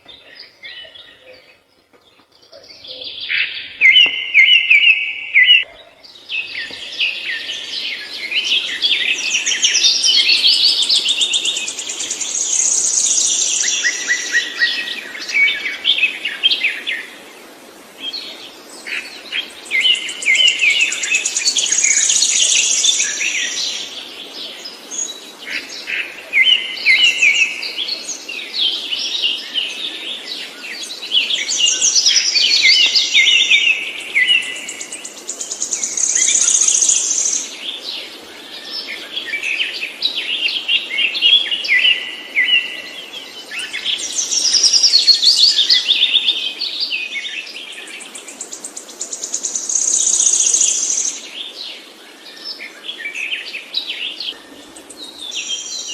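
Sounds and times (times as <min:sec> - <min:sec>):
songbird trilling song: 0:00.0 - 0:16.8, 0:19.4 - 0:24.0, 0:30.5 - 0:55.9.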